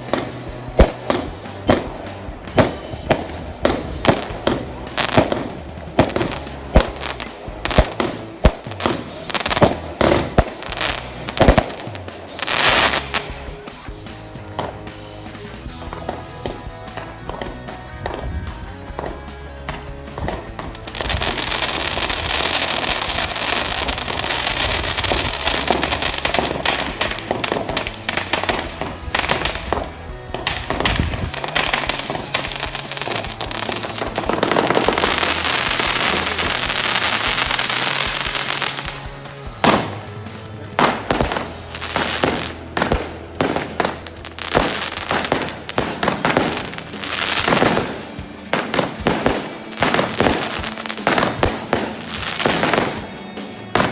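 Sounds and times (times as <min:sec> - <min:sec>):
fireworks bangs: 0:00.0 - 0:53.9
fireworks crackling: 0:00.0 - 0:53.9
rock music: 0:00.0 - 0:53.9.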